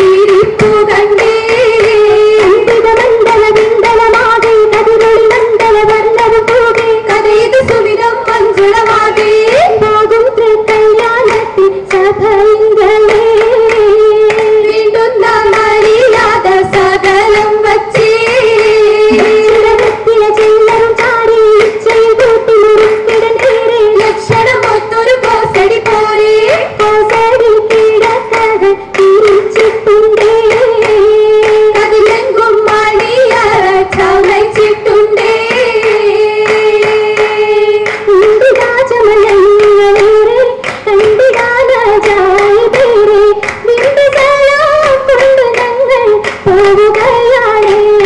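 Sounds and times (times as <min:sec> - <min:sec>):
rhythmic hand claps: 0:00.0 - 0:48.0
women singing in unison: 0:00.0 - 0:48.0.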